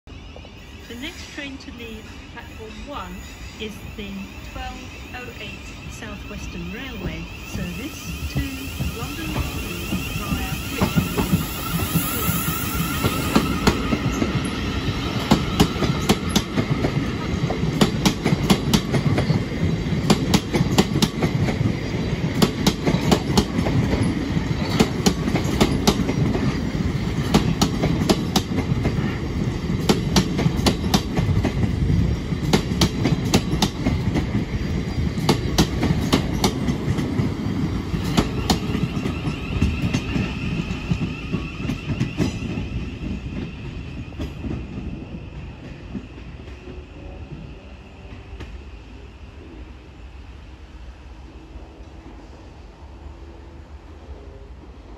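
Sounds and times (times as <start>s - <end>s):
train wheels rumbling on rail: 0.1s - 54.9s.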